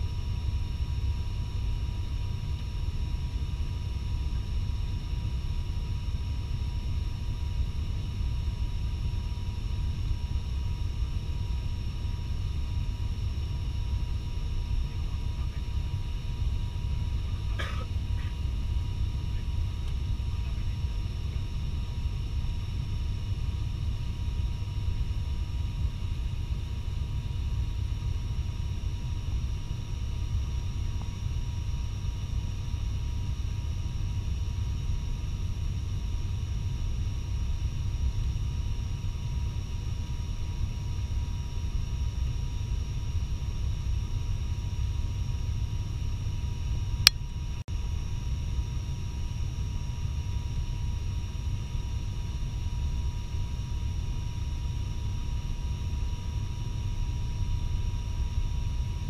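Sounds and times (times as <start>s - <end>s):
turboprop cabin rumble and hum: 0.0s - 59.0s.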